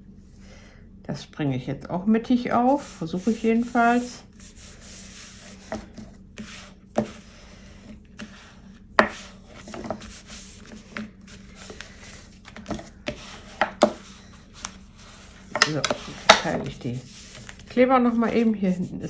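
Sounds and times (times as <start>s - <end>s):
hands smoothing card stock: 2.6s - 19.0s
bone folder rubbing card: 2.7s - 19.0s.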